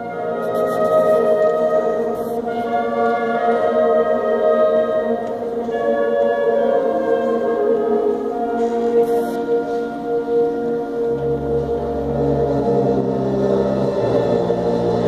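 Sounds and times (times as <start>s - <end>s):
concert band playing sustained chords: 0.0s - 15.0s.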